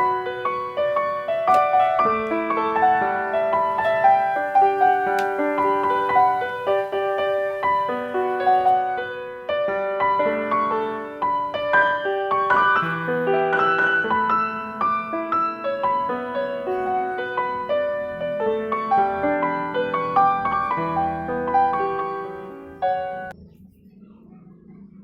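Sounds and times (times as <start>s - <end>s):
calm piano melody: 0.0s - 23.4s.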